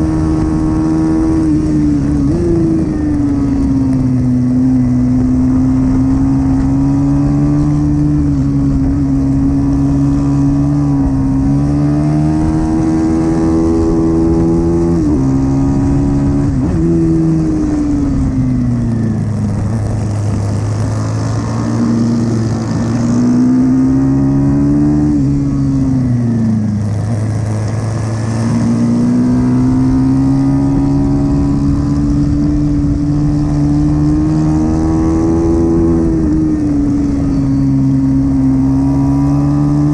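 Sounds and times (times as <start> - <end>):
lower engine: 0.0 - 39.9
pit bike engine racing: 0.0 - 39.9.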